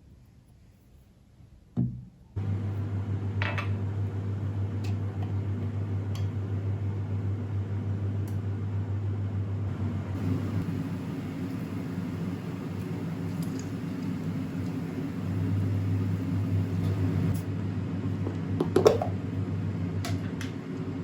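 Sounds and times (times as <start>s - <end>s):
appliance humming: 2.4s - 21.0s.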